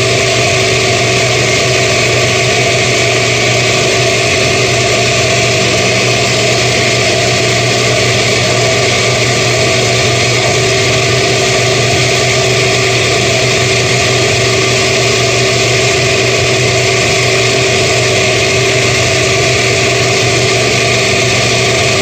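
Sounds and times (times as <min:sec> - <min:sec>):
blender motor hum: 0:00.0 - 0:22.0.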